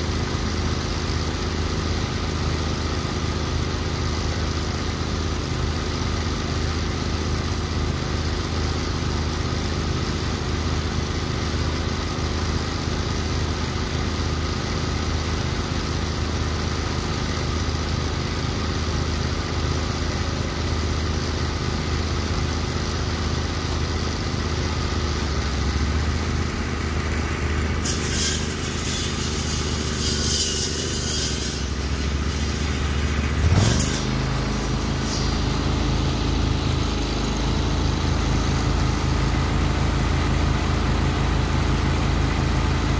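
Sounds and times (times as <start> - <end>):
mower engine idling: 0.0 - 42.9.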